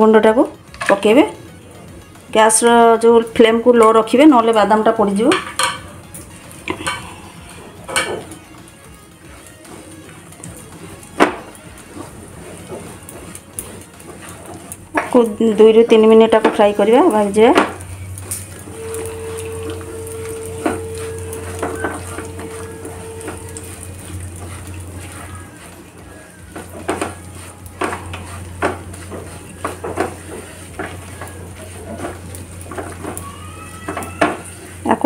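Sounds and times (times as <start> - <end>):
low sizzle: 0.0 - 35.0
spatula scraping nonstick pan: 5.2 - 8.5, 9.3 - 35.0.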